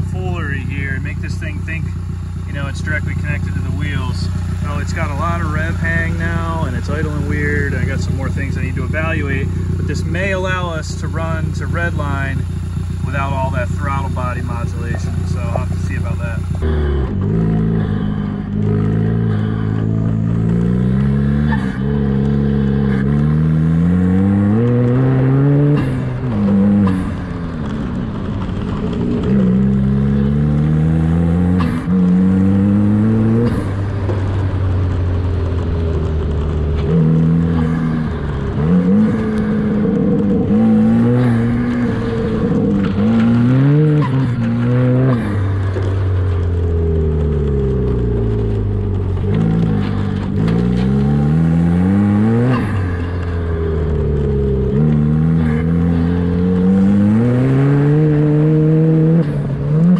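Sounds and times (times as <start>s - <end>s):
turbocharged engine revving: 0.0s - 59.9s.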